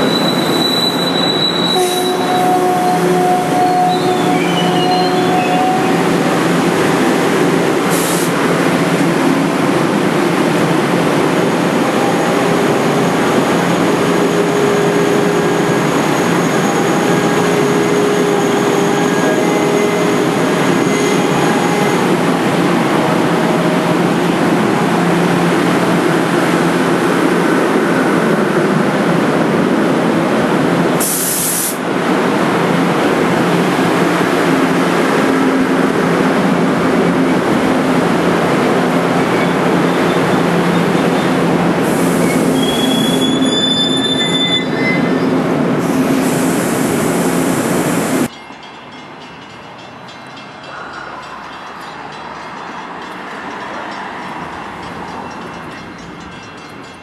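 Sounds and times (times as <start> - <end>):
train coaches rumbling past: 0.0 - 57.0.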